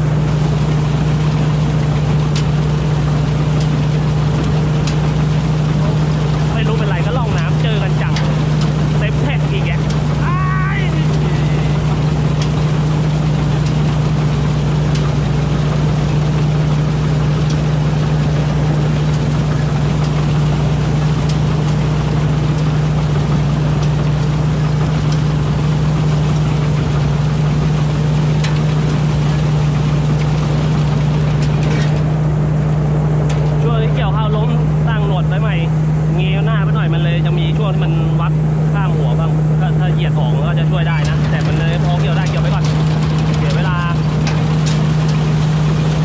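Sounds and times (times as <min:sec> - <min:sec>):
combine harvester engine drone: 0:00.0 - 0:46.0.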